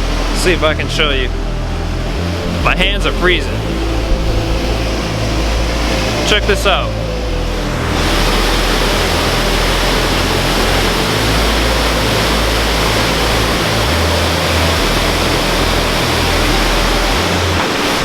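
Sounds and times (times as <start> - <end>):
waterfall pouring: 0.0 - 18.0.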